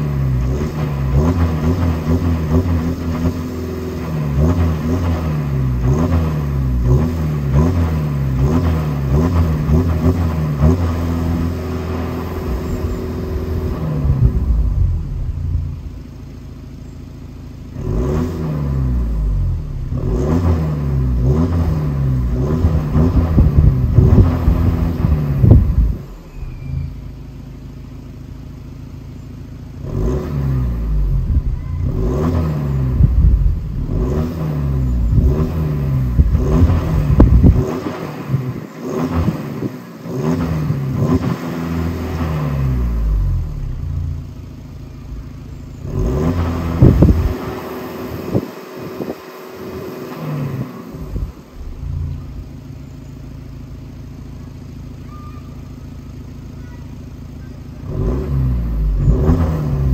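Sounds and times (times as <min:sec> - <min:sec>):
engine idling: 0:00.0 - 0:18.1, 0:21.9 - 0:59.9
diesel engine revving: 0:00.0 - 0:59.9.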